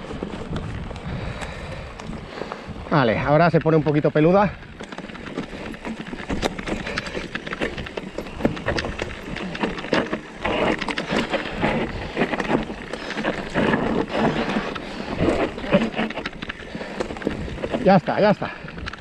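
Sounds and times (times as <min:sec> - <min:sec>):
bike tyres rattling over stones: 0:00.0 - 0:19.0.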